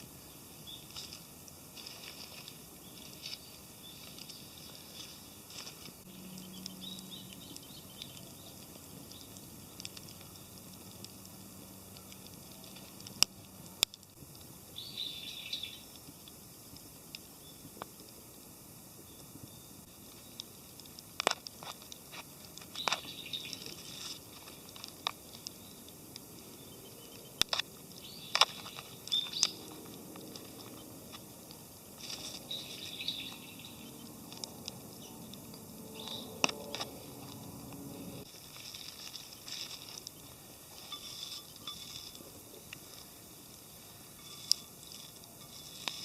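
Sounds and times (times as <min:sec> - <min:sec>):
campfire crackling and popping: 0:00.0 - 0:46.0
faint steady hiss: 0:00.0 - 0:46.0.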